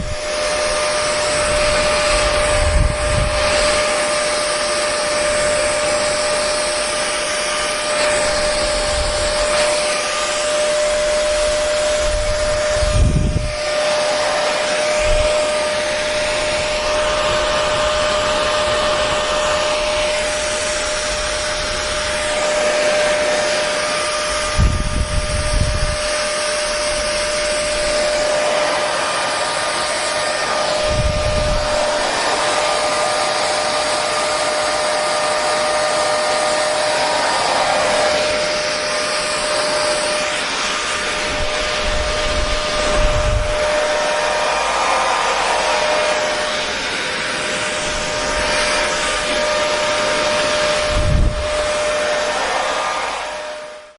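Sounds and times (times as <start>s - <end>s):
hair dryer running: 0.0s - 53.9s.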